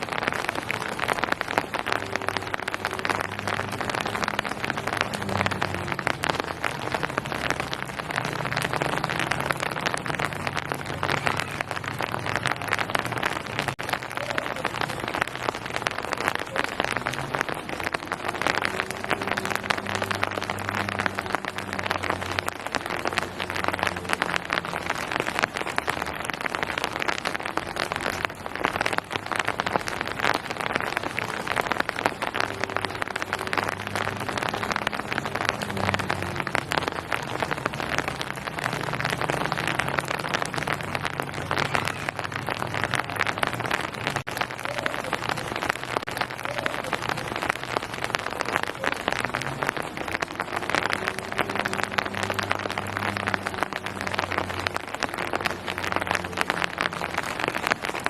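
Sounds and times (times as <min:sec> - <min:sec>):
steady rain on hard surfaces: 0:00.0 - 0:58.0.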